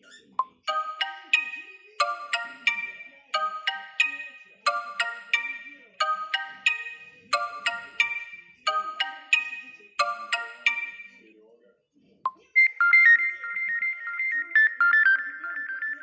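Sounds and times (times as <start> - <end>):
chiming phone ringtone: 0.7 - 11.3, 12.6 - 16.0.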